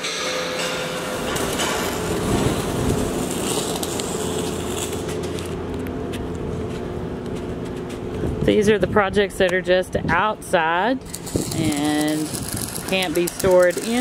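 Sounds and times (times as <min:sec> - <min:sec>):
low hum: 0:00.0 - 0:13.8.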